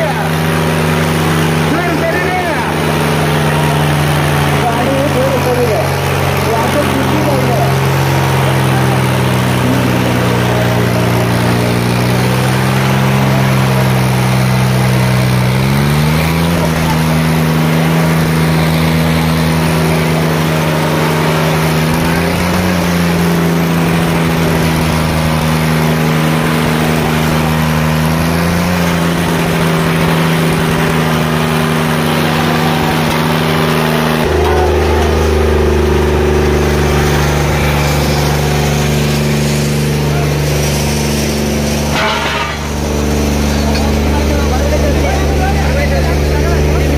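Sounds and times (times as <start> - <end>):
tractor engine at high revs: 0.0 - 46.9.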